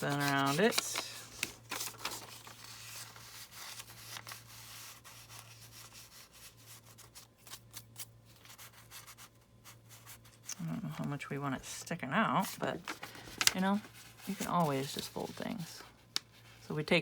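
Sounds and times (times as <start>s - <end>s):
paper rustling: 0.0s - 11.0s, 12.4s - 16.6s.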